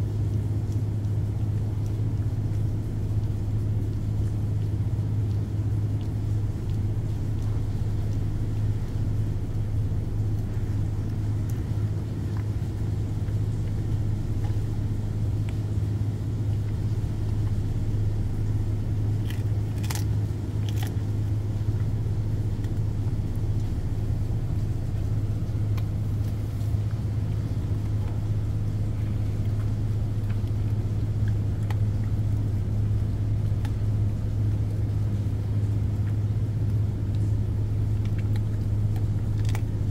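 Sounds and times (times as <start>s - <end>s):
ship machinery humming: 0.0s - 39.9s
dog chewing clicks: 0.1s - 39.9s.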